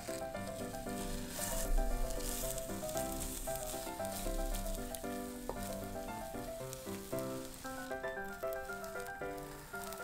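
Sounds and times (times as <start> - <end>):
instrumental background music: 0.0 - 10.0
omelette sizzling in a pan: 0.0 - 10.0.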